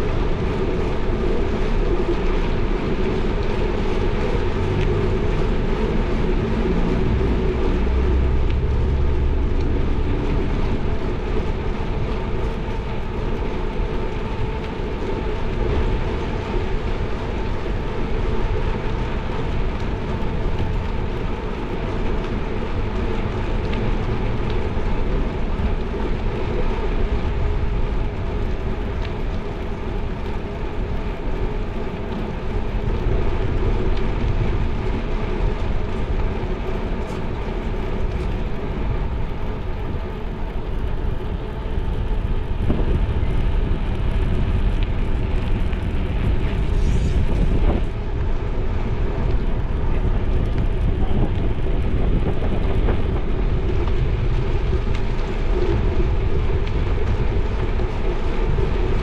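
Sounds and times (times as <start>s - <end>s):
bicycle rolling rumble: 0.0s - 59.0s
wind noise: 0.0s - 59.0s.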